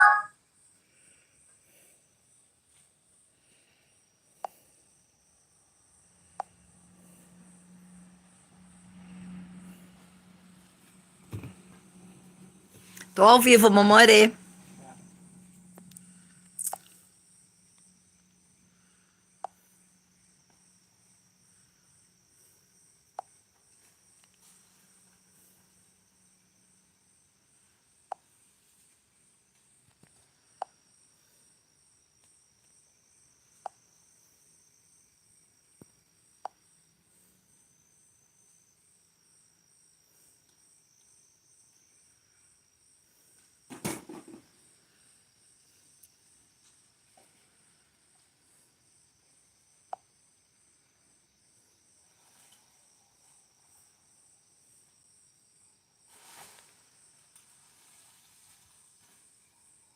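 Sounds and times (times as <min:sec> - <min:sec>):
crickets trilling: 0:00.5 - 0:09.6, 0:14.8 - 0:59.9.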